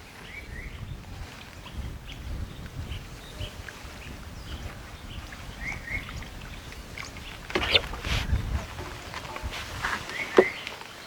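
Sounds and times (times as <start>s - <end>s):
wind rumble on microphone: 0.0s - 10.6s.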